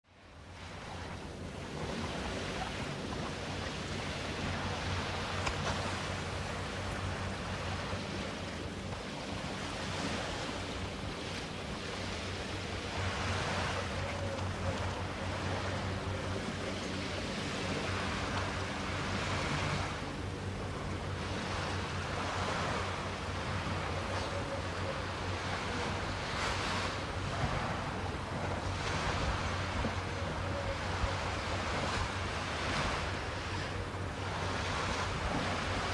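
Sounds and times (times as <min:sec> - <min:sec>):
waves breaking on beach: 0:00.4 - 0:35.9.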